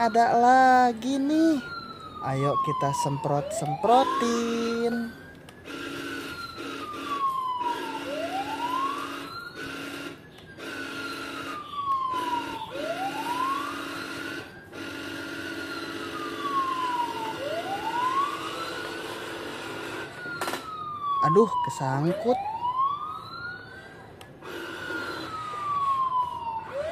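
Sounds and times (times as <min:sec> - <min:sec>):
toy siren wailing: 0:00.0 - 0:26.9.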